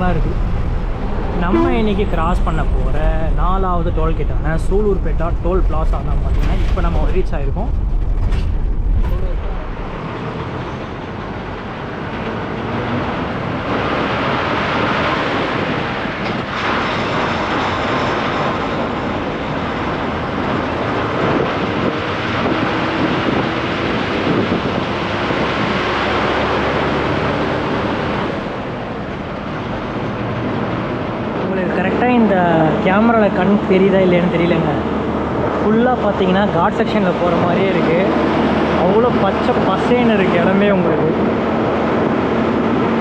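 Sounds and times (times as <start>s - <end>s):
bus diesel engine roaring: 0.0s - 43.0s.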